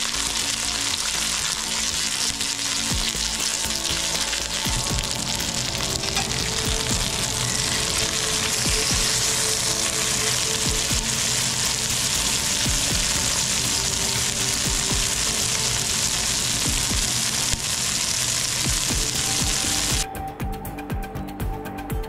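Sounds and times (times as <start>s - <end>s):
chicken sizzling in hot oil: 0.0s - 20.1s.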